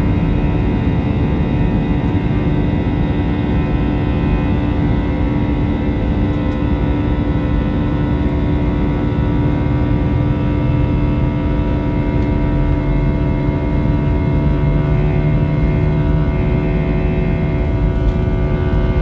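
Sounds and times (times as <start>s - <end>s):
jet engines and airflow in cabin: 0.0s - 19.0s.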